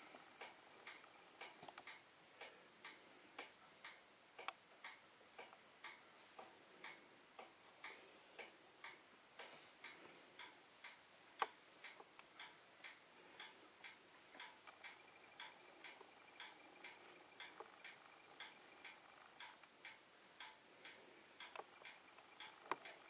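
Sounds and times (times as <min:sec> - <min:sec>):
faint regular ticking: 0:00.0 - 0:23.0.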